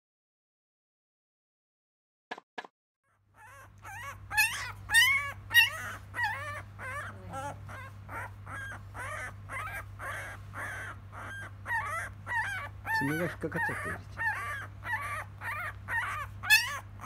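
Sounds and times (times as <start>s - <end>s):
puppy crying in squeals: 3.1s - 17.0s.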